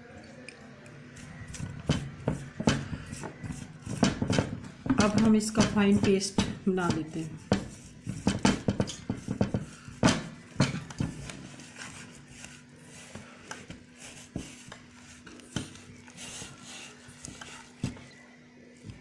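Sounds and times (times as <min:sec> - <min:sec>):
batter mixed in steel bowl: 0:01.1 - 0:19.0.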